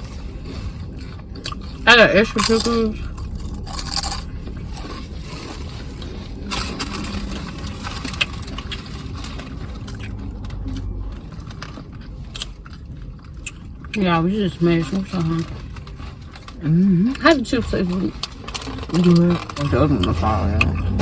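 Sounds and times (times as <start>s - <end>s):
chewing: 0.0s - 21.0s
rustling and scraping: 0.0s - 21.0s.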